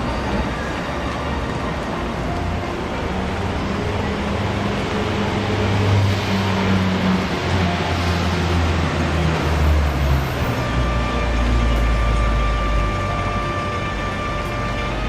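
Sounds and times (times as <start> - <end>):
motor traffic rumble: 0.0 - 15.0.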